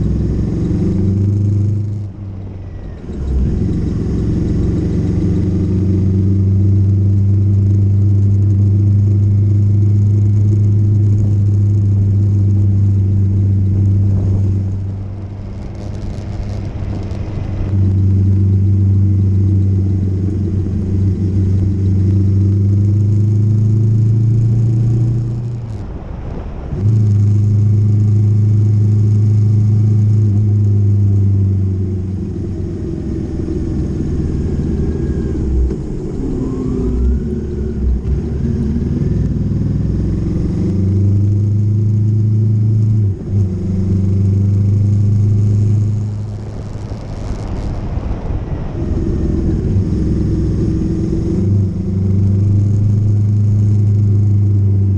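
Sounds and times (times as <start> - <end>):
motorcycle engine running: 0.0 - 26.0, 26.6 - 54.9.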